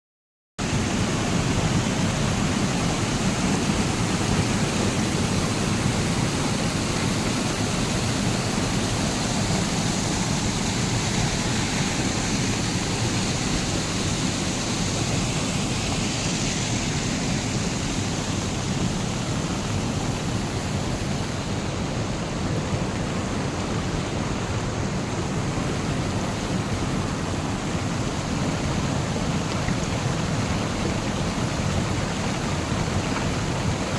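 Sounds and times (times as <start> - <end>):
floodwater rushing: 0.6 - 33.9
heavy rain: 0.6 - 33.9.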